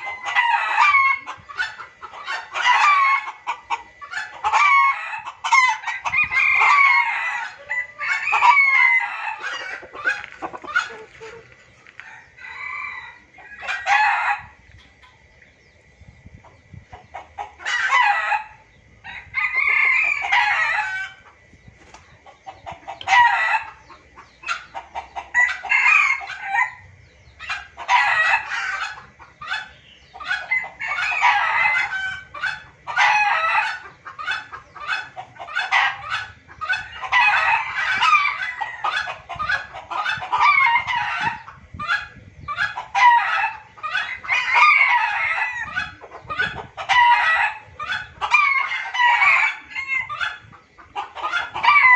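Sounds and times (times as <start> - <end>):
junglefowl crowing and cackling: 0.0 - 15.1, 17.0 - 21.6, 22.2 - 51.9
junglefowl clucking: 0.0 - 15.2, 22.2 - 51.9.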